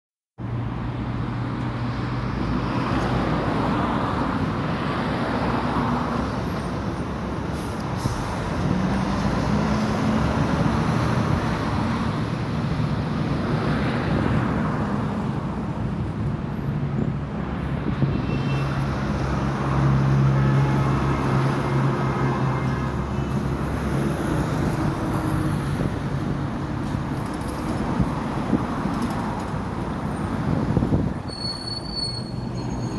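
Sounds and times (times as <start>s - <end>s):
vehicles passing: 0.4s - 32.9s.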